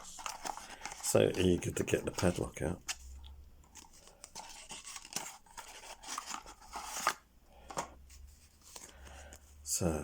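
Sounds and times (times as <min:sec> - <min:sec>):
paper and packaging rustling: 0:00.0 - 0:09.4.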